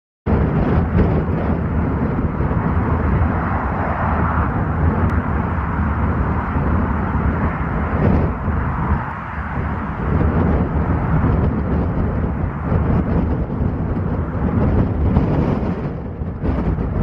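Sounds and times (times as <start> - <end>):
turboprop airplane drone: 0.2 - 17.0
wind buffeting microphone: 0.3 - 17.0.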